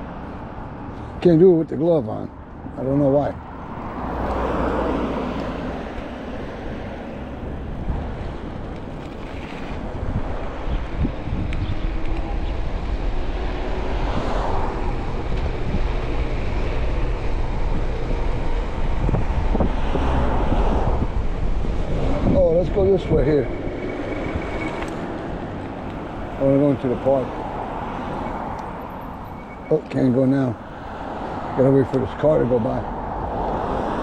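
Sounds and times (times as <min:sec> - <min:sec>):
low road rumble: 0:00.0 - 0:34.0
wind buffeting microphone: 0:02.5 - 0:29.4, 0:30.6 - 0:34.0.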